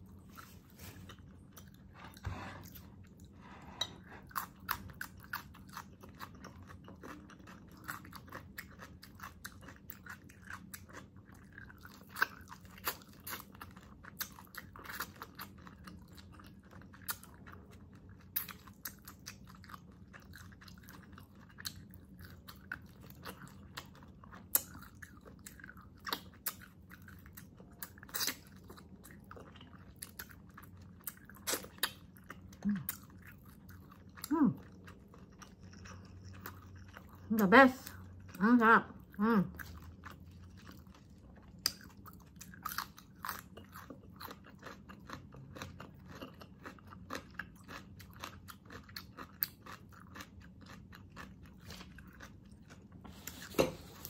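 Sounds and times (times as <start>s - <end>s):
person chewing meat: 0.0s - 54.0s.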